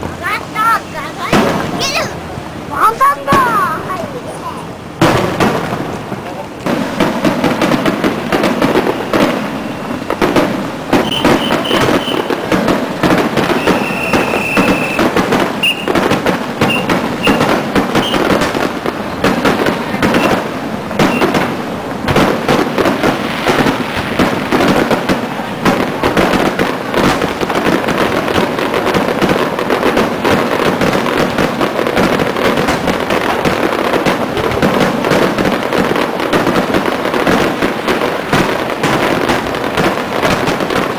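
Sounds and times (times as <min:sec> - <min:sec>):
fireworks crackling and popping: 0:00.0 - 0:40.9
high whistling fireworks: 0:00.0 - 0:40.9.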